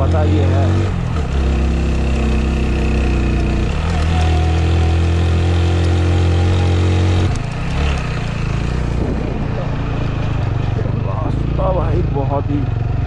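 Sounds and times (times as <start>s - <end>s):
motorcycle engine under throttle: 0.0s - 13.0s
road noise on gravel: 0.0s - 13.0s.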